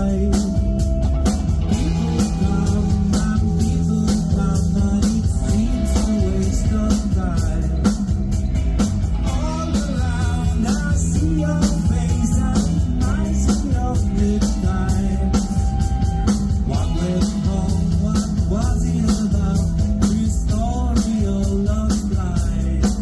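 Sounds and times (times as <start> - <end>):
person singing: 0.0 - 1.0, 1.6 - 8.2, 9.2 - 23.0
bass: 0.0 - 23.0
drums: 0.0 - 23.0
electric guitars: 0.0 - 23.0.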